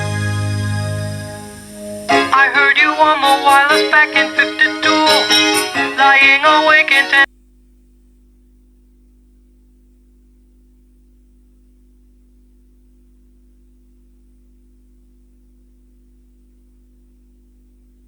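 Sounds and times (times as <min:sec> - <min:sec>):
electrical hum: 0:00.0 - 0:18.0
low hiss: 0:00.0 - 0:18.0.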